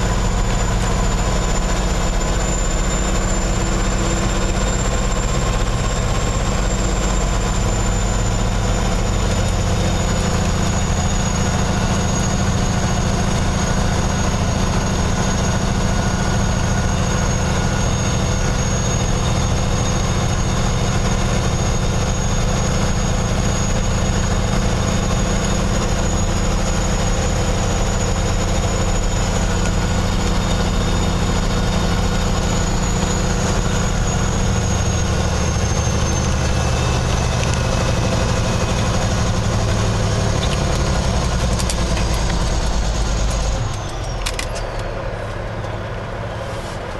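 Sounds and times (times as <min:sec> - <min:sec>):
diesel engine low drone: 0:00.0 - 0:46.9.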